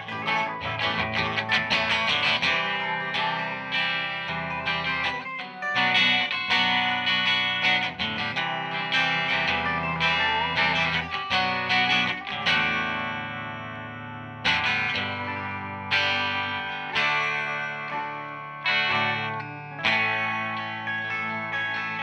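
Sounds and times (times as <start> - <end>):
guitar music: 0.0 - 22.0.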